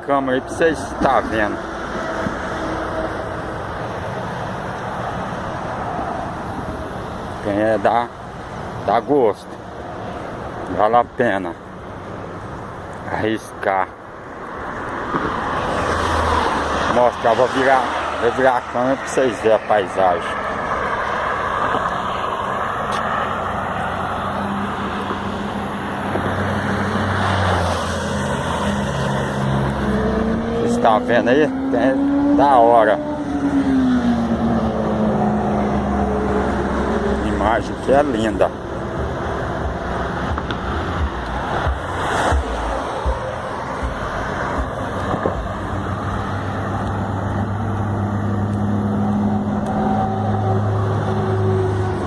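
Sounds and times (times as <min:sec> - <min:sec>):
highway traffic rushing: 0:00.0 - 0:52.0
vehicle engine passing: 0:00.3 - 0:08.2, 0:09.8 - 0:52.0.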